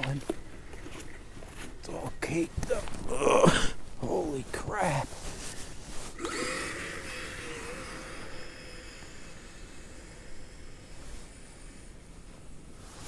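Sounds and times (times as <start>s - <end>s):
faint hiss: 1.7s - 13.0s.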